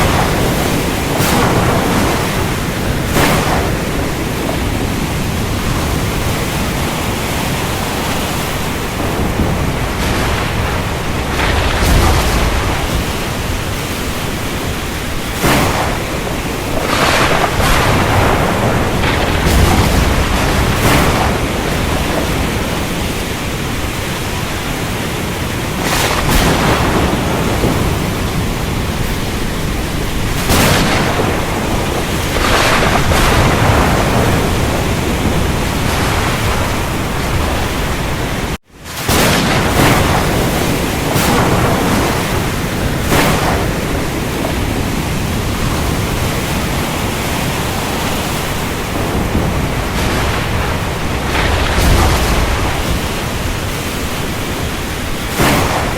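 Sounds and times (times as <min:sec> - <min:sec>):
heavy rain: 0:00.0 - 0:55.9
thunder: 0:00.0 - 0:55.9.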